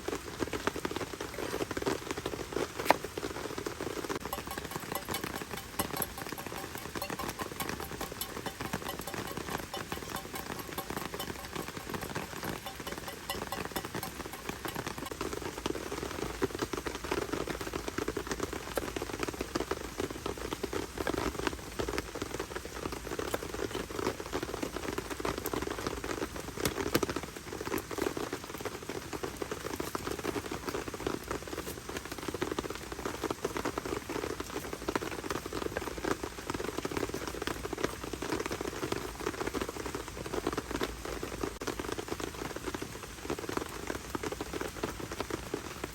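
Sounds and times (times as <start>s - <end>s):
heavy rain on tent fabric: 0.0s - 5.6s, 8.5s - 45.9s.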